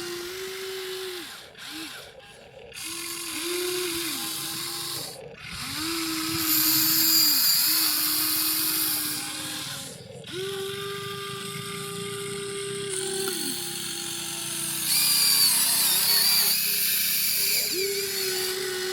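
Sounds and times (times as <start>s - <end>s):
electric gear motors whining: 0.0s - 18.9s
gears grinding: 0.0s - 18.9s.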